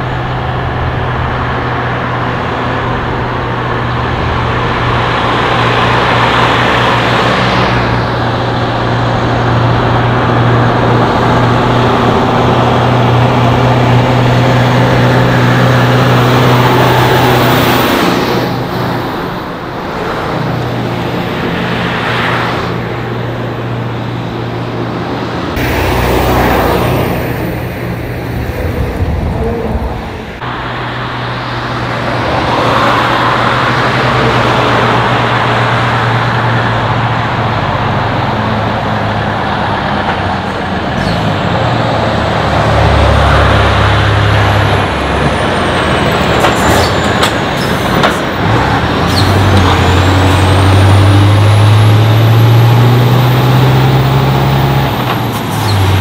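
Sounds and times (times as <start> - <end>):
truck diesel engine under load: 0.0 - 56.0
tyre and road noise: 0.0 - 56.0.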